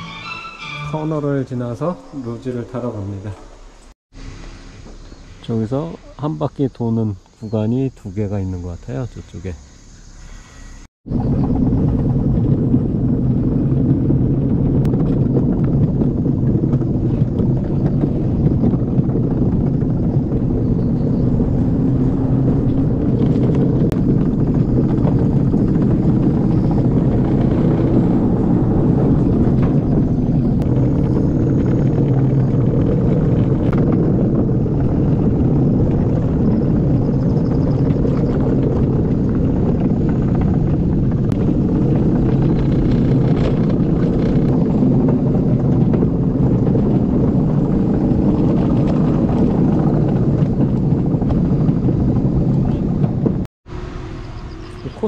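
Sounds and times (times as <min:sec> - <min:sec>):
luge cart rumbling on track: 0:00.0 - 0:55.0.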